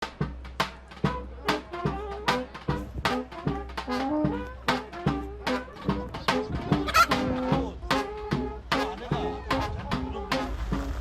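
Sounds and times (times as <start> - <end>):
instrumental music with drum beat: 0.0 - 11.0.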